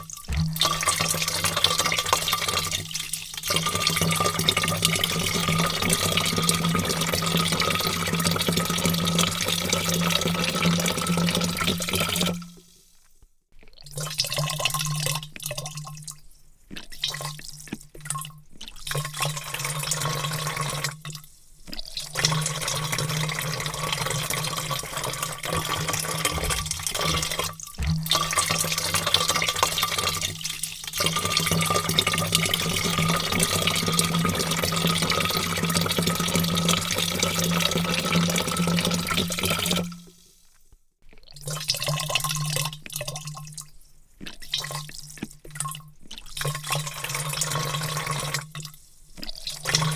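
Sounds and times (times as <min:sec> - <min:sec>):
water pouring into a vat: 0:00.0 - 0:49.9.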